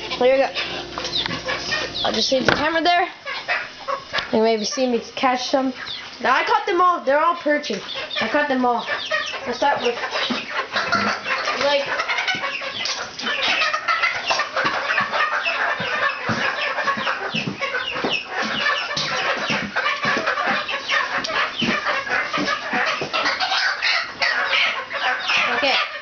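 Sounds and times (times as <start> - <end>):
young chickens cheeping: 0.0 - 26.0.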